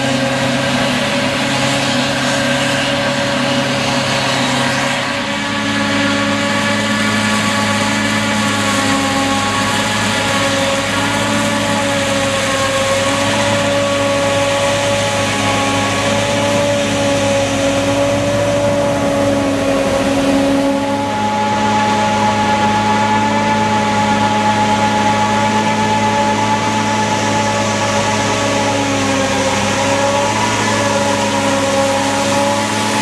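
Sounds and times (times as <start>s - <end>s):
forage harvester running: 0.0s - 33.0s
tractor engine: 0.0s - 33.0s.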